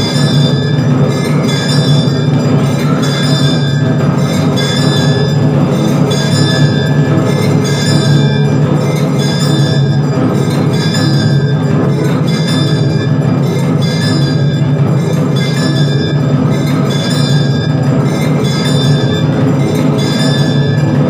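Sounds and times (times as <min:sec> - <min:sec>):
bells struck rhythmically: 0:00.0 - 0:21.0
continuous low hum: 0:00.0 - 0:21.0
percussion: 0:00.0 - 0:21.0.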